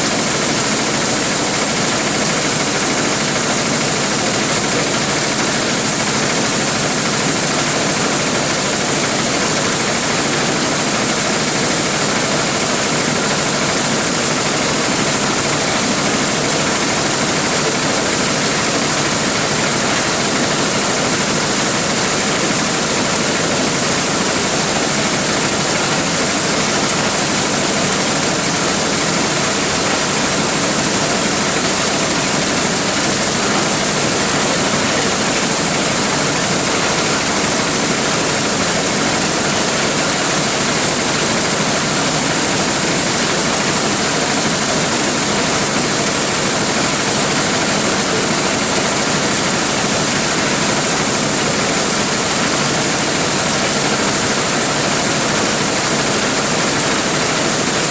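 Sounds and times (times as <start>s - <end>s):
corn sheller mechanical din: 0.0s - 57.9s.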